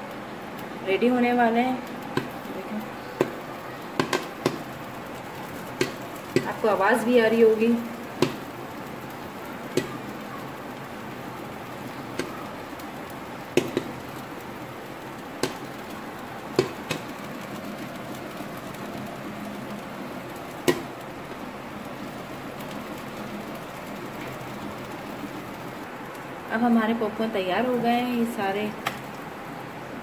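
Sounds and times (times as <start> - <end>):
popcorn kernels popping: 0.0 - 30.0
steady hiss: 0.0 - 30.0.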